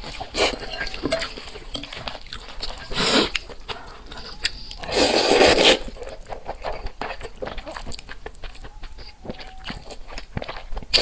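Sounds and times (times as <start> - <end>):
person chewing and biting food: 0.0 - 11.0.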